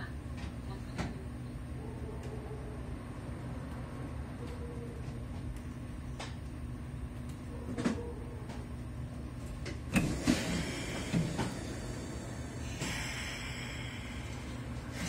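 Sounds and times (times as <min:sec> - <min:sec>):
electric train equipment humming: 0:00.0 - 0:15.0.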